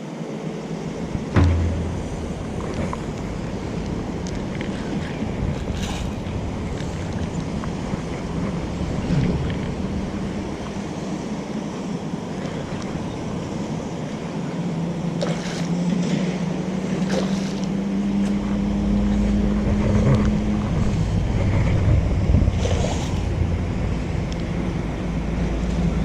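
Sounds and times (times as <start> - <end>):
motor hum: 0.2 - 26.0
wind rumbling on microphone: 0.6 - 26.0.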